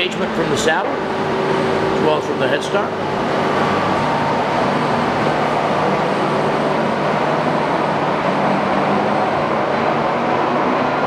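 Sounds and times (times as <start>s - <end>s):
lathe motor whirring: 0.0s - 11.0s.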